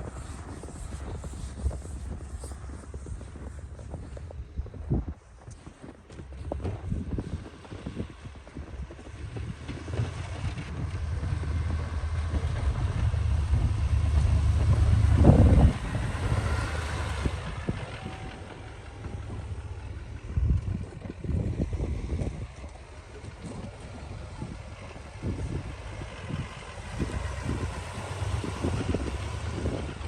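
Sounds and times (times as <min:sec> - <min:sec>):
engine running with low rumble: 0:00.0 - 0:30.0
wind on microphone: 0:00.0 - 0:30.0.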